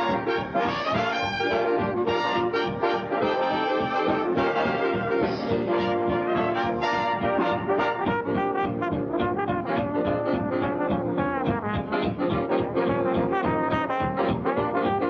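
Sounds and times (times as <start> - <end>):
swing big band playing: 0.0 - 15.0.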